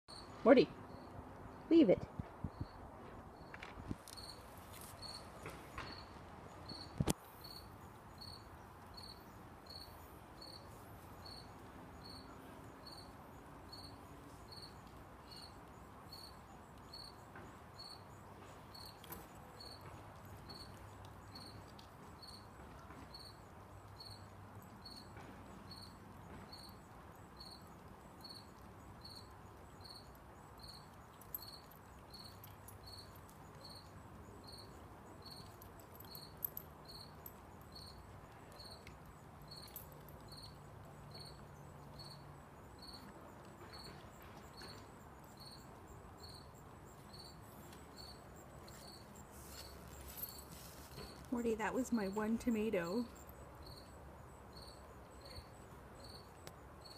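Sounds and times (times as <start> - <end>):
cricket chirping: 0.1 - 1.1, 2.4 - 56.9.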